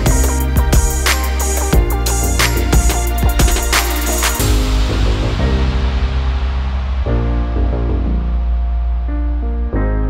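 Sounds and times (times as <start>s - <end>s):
music with drum beat and bass: 0.0s - 9.2s.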